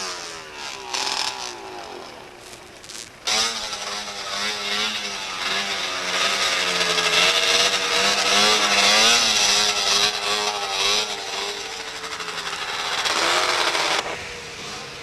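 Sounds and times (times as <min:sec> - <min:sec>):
snowmobile engines racing: 0:00.0 - 0:15.0.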